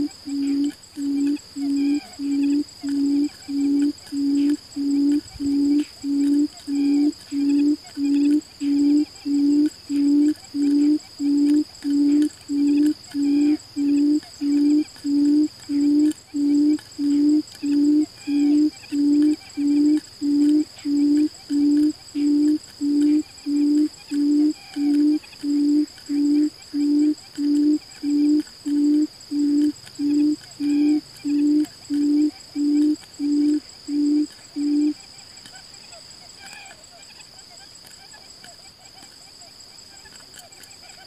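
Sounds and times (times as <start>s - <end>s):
bird booming hoots: 0.0s - 35.0s
insects droning: 0.0s - 41.0s.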